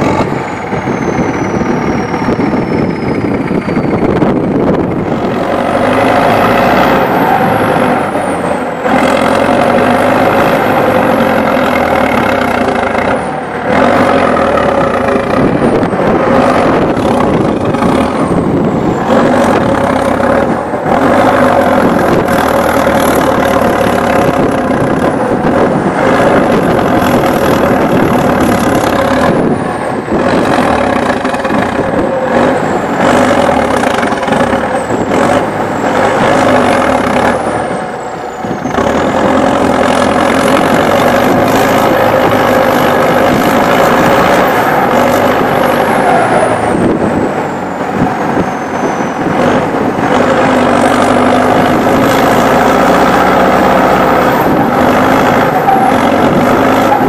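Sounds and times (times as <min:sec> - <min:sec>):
tractor diesel engine running hard: 0:00.0 - 0:57.0.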